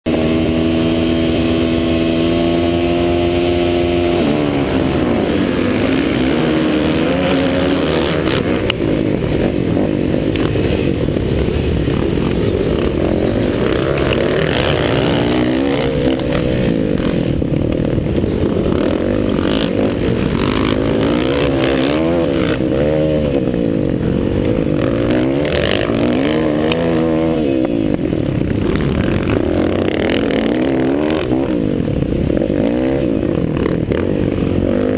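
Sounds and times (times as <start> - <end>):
motocross bike engines revving: 0.1 - 34.9.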